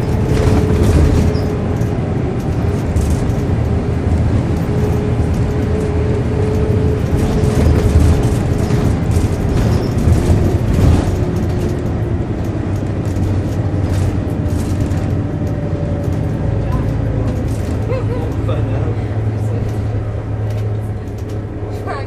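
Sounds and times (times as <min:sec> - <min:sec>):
body rattles: 0:00.0 - 0:18.7
bus diesel engine rumble: 0:00.0 - 0:22.0.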